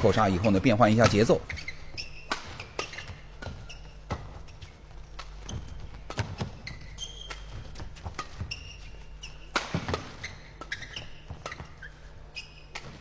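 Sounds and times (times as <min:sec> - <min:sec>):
rackets hitting shuttlecock: 0:00.0 - 0:11.8, 0:12.5 - 0:13.0
shoes squeaking on court floor: 0:00.0 - 0:13.0.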